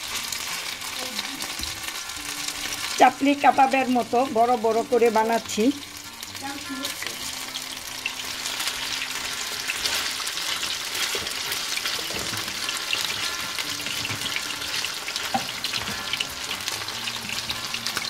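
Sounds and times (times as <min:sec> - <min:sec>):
patties sizzling in hot oil: 0:00.0 - 0:18.0.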